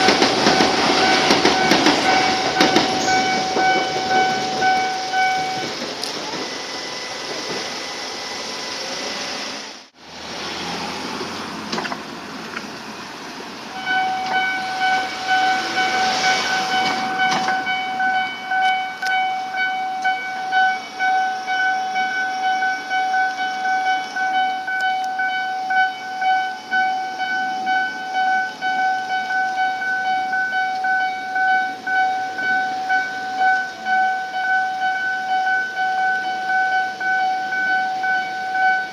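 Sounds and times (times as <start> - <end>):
level crossing alarm dinging: 0.0 - 7.3, 13.7 - 38.9
electric train passing: 0.0 - 38.9.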